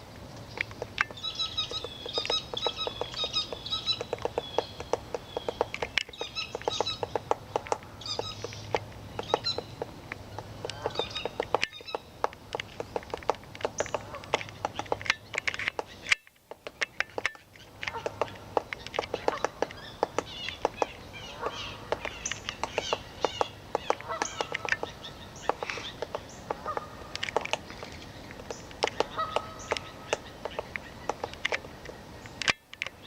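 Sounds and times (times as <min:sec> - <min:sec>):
woodpecker pecking at wood: 0:00.0 - 0:33.0
high bird chirps: 0:00.5 - 0:27.1.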